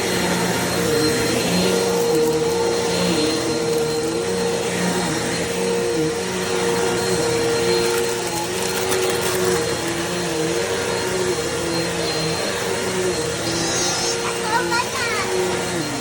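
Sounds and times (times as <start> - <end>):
upright vacuum cleaner running: 0.0 - 16.0.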